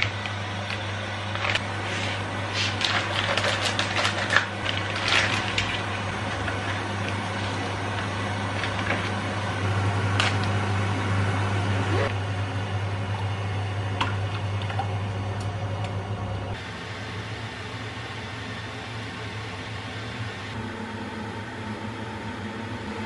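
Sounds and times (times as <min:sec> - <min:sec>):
kitchen appliance humming: 0:00.0 - 0:23.0.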